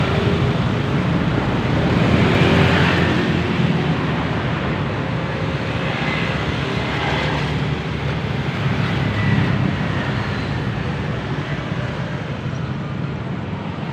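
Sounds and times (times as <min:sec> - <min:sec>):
passing vehicles: 0:00.0 - 0:13.9.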